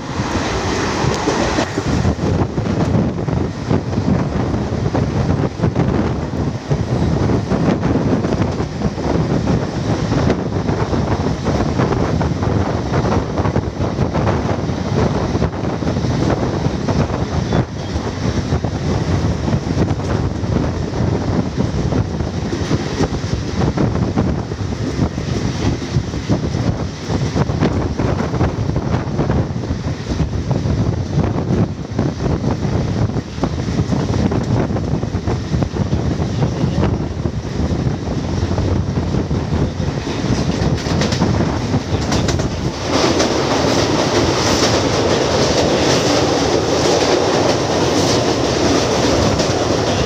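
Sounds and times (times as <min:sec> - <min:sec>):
train rumbling at high speed: 0:00.0 - 0:50.0
wind buffeting microphone: 0:00.0 - 0:50.0.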